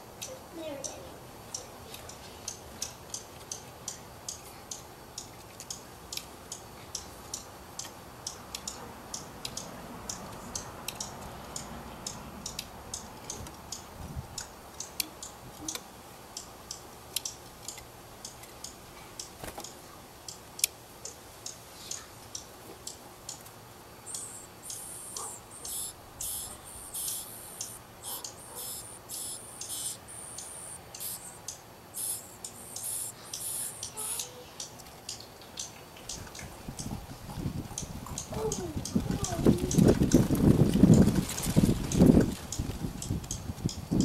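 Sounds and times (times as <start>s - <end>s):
bird ticking chip calls: 0.1s - 37.0s, 37.7s - 41.1s, 41.8s - 44.0s.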